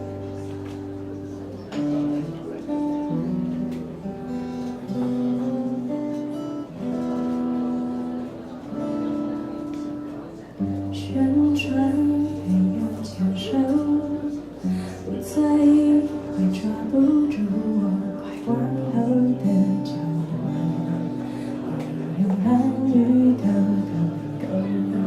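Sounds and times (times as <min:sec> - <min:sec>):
plucked and strummed guitar: 0:00.0 - 0:25.0.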